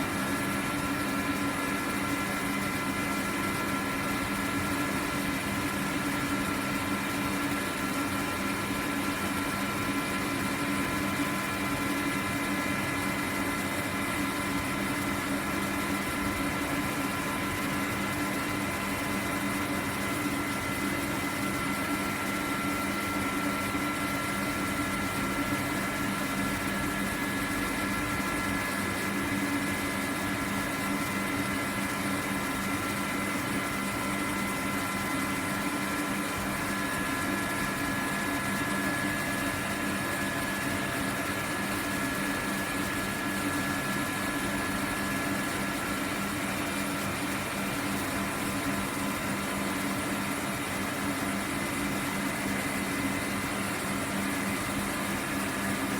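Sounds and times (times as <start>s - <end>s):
laser cutter hum and hiss: 0.0s - 55.9s.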